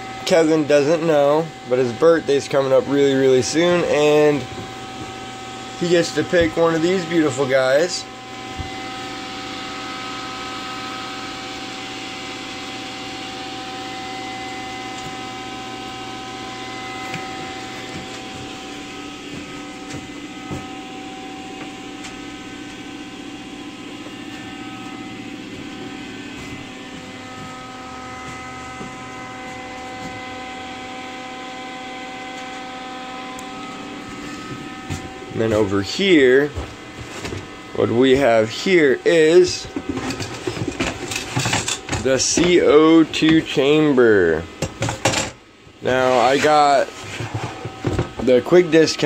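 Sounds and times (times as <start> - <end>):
electric fan humming: 0.0 - 49.0.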